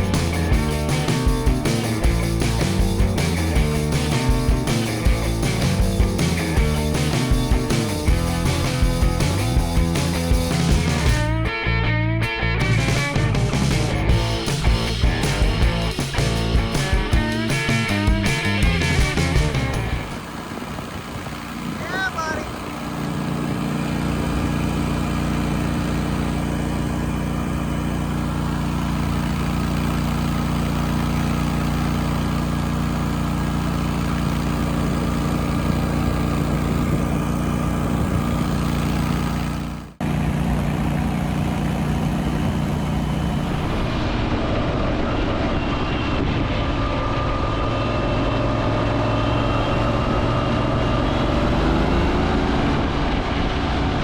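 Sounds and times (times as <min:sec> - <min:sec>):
v-twin engine running: 0:00.0 - 0:11.4, 0:12.6 - 0:44.0, 0:46.8 - 0:54.0.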